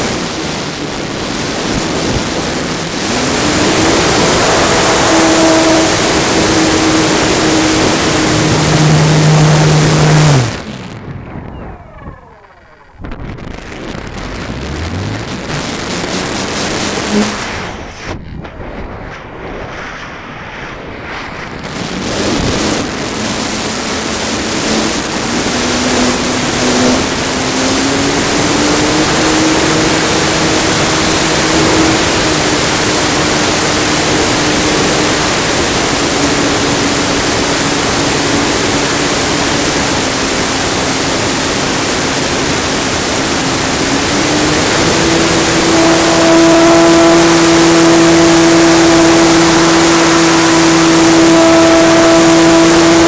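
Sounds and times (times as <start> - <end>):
model plane propeller hum: 0.0 - 53.0
rushing airflow noise: 0.0 - 53.0.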